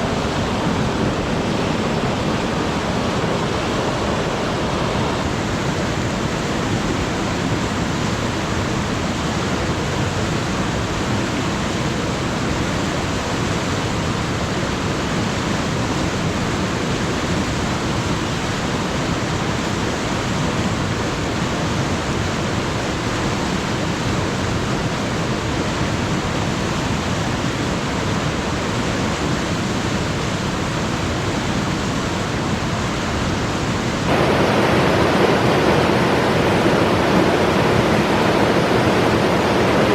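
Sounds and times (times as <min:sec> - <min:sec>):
water rushing over stones: 0:00.0 - 0:39.9.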